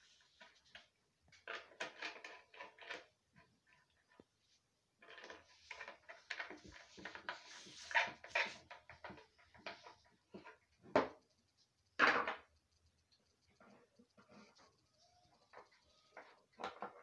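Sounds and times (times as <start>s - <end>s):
wires rustling and clicking on table: 0.0s - 4.4s, 5.0s - 17.0s.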